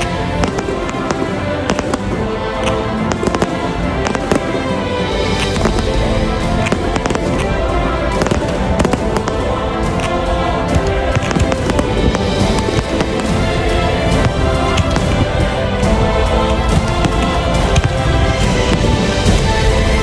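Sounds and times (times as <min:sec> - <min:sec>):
fireworks bangs and crackles: 0:00.0 - 0:20.0
loud music: 0:00.0 - 0:20.0.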